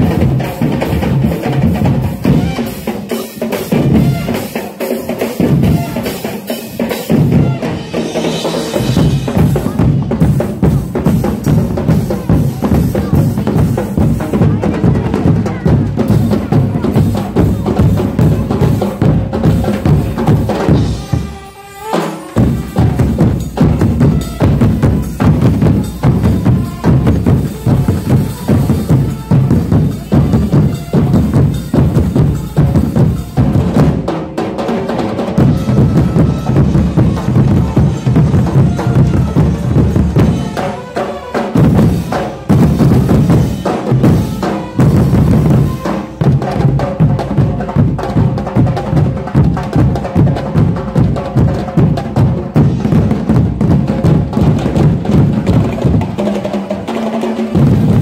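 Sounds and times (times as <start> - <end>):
bass drums beaten in fast rhythm: 0.0 - 58.0.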